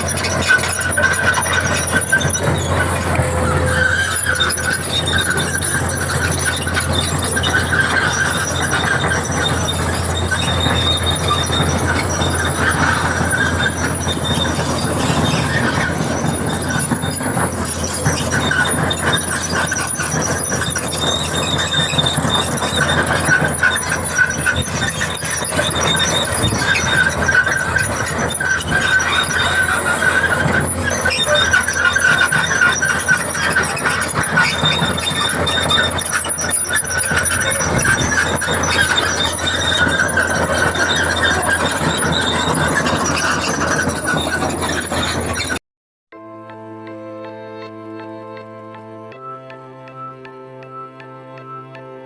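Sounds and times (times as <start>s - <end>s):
excavator low drone: 0.0s - 45.6s
high-pitched squeal: 0.0s - 45.6s.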